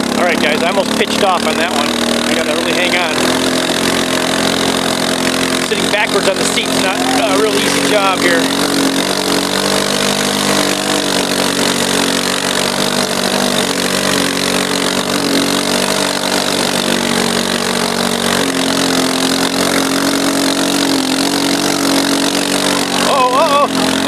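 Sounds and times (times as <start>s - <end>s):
quad engine running: 0.0s - 24.0s.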